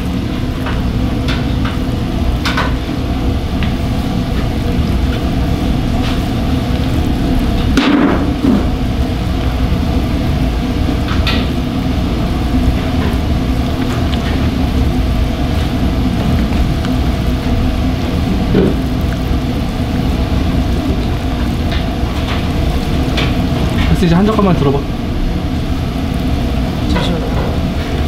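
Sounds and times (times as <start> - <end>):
kitchen equipment roar: 0.0 - 28.0.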